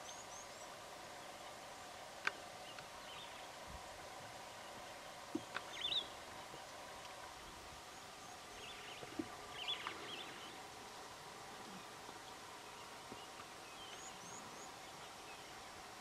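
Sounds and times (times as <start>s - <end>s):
faint outdoor hum: 0.0s - 16.0s.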